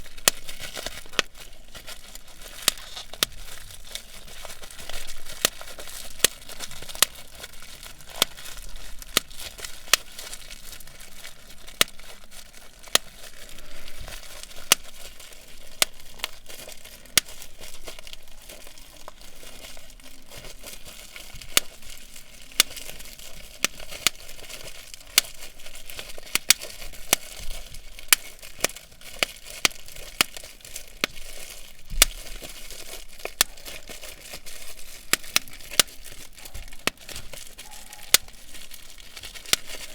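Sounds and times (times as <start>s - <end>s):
bubble wrap popping: 0.0s - 39.9s
plastic crinkling: 0.0s - 39.9s.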